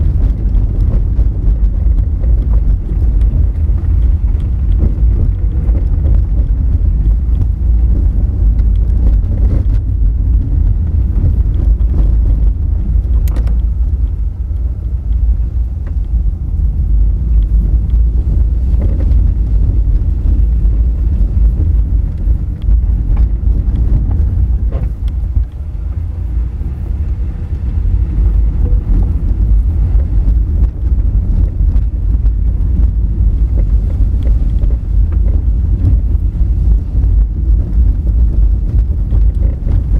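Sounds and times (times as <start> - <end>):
tyres rumbling on gravel: 0.0 - 39.9.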